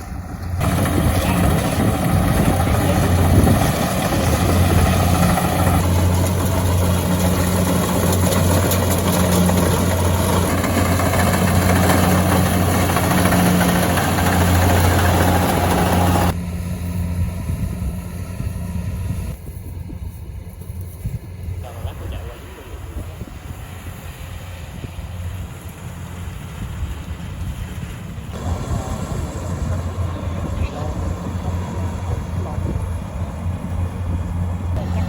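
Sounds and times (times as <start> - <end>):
motor engine humming: 0.0 - 35.0.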